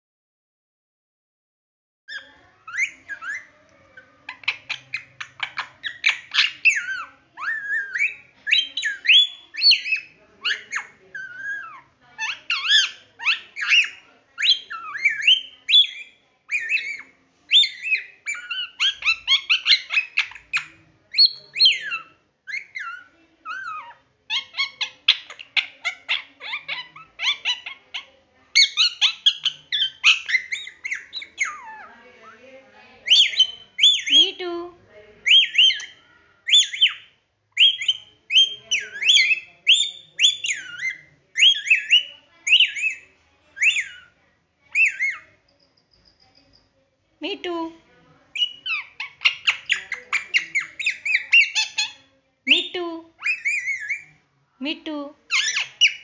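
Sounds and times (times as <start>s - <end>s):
parakeet chattering: 2.1s - 56.0s.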